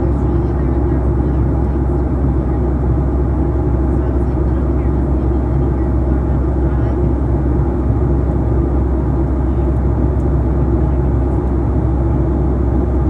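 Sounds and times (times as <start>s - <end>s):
vehicle cabin rumble: 0.0s - 13.0s.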